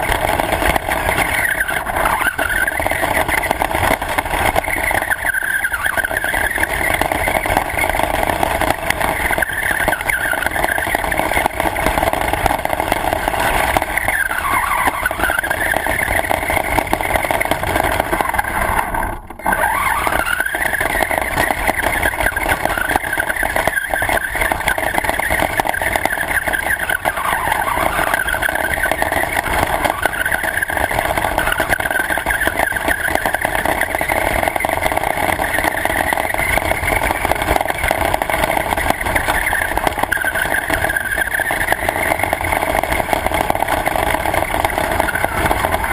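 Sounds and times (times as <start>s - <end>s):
radio-controlled car motor: 0.0s - 45.9s
steady rush of noise: 0.0s - 45.9s.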